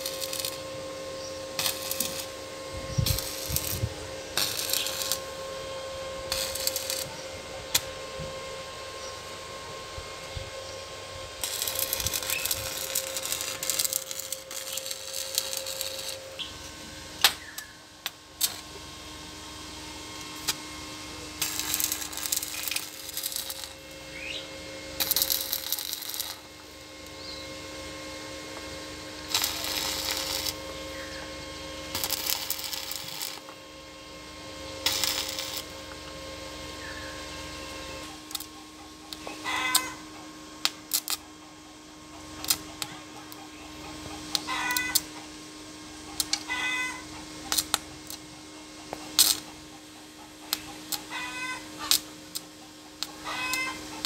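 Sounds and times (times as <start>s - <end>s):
steady hum: 0.0s - 54.0s
welding arc crackling and sizzling: 0.0s - 54.0s.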